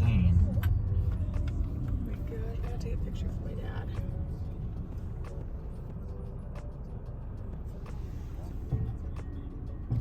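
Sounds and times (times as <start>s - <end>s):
engine and road noise rumble: 0.0s - 10.0s.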